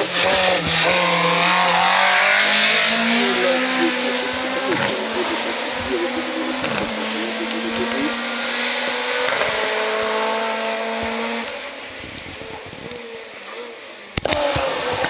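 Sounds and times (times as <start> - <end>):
race car accelerating past: 0.0 - 15.0.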